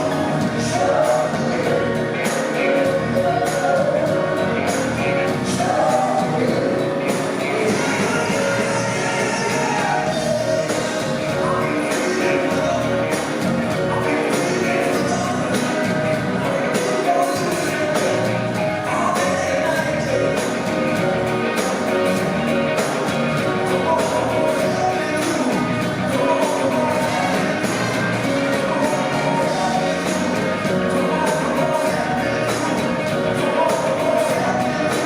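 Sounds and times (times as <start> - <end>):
live rock band playing: 0.0 - 35.0
person singing: 0.0 - 35.0
steady drum beat: 0.0 - 35.0.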